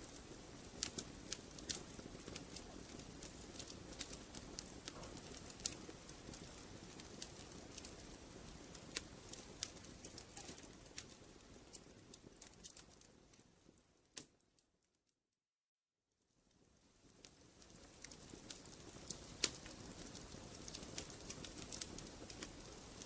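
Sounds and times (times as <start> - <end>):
wood fire crackling: 0.0 - 14.8, 16.2 - 23.0.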